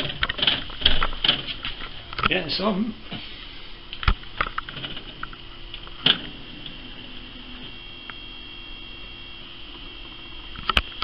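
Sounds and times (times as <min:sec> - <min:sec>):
electrical hum with high whine: 0:00.0 - 0:11.0.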